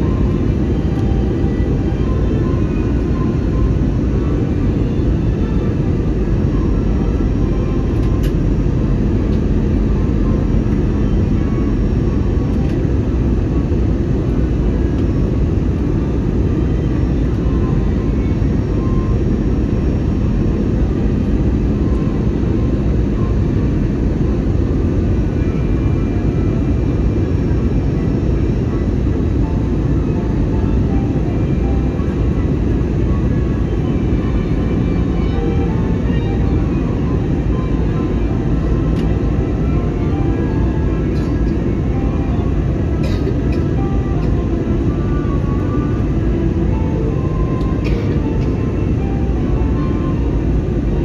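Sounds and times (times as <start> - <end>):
airliner cabin roar: 0.0 - 51.0.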